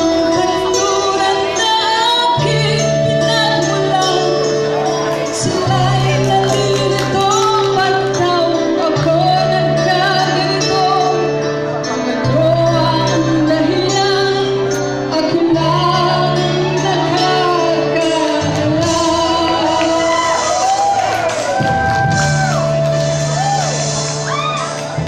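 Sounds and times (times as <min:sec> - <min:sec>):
woman singing into a microphone: 0:00.0 - 0:21.0
backing music with bass line: 0:00.0 - 0:25.0.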